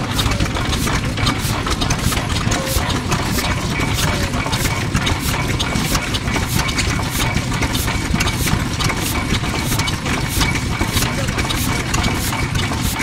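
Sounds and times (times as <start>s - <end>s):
diesel engine running: 0.0s - 13.0s
exhaust puffing: 0.0s - 13.0s.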